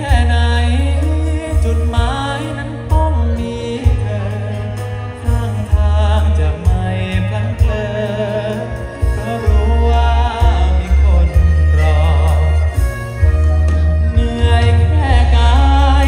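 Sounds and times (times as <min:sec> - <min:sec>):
loud music with heavy bass: 0:00.0 - 0:16.0
man singing into a microphone: 0:00.0 - 0:16.0.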